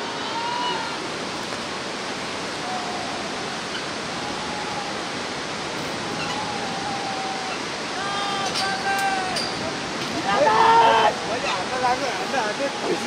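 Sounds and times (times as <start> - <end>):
whitewater river rushing: 0.0 - 13.0.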